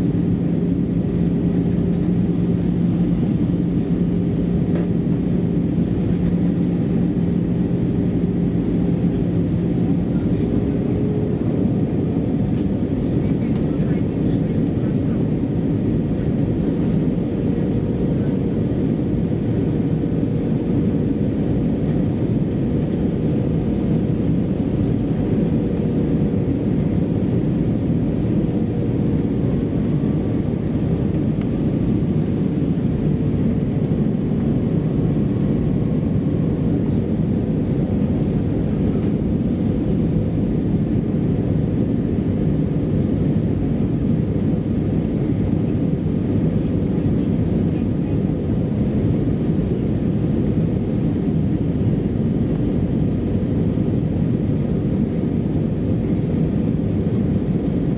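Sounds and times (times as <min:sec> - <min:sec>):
aircraft cabin roar: 0:00.0 - 0:57.9.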